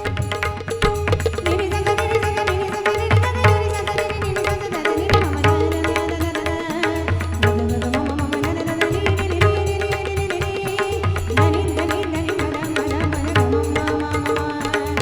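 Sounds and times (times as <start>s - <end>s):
tabla and pakhawaj drumming: 0.0s - 15.0s.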